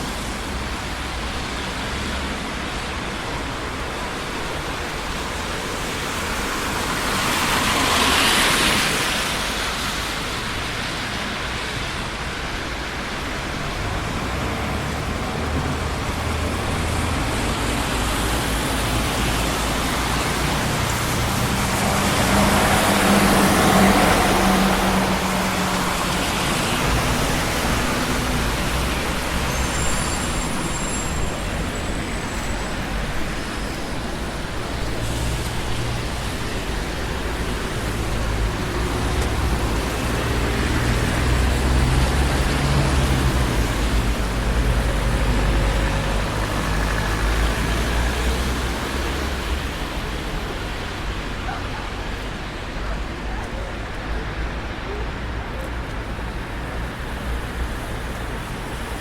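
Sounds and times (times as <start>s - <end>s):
city street traffic roar: 0.0s - 59.0s.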